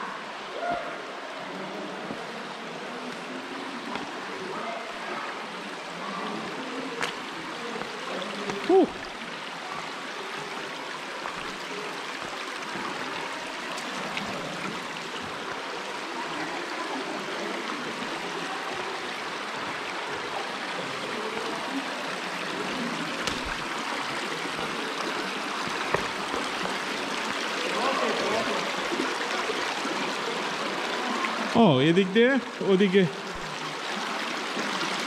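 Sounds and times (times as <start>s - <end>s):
creek water running over rocks: 0.0s - 35.0s.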